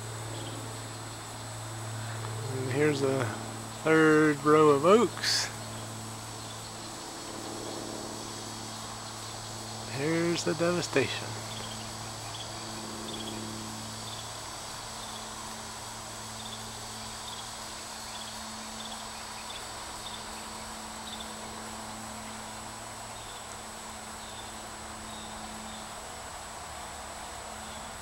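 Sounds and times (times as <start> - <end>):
high insect drone: 0.0 - 28.0
low steady hum: 0.0 - 28.0.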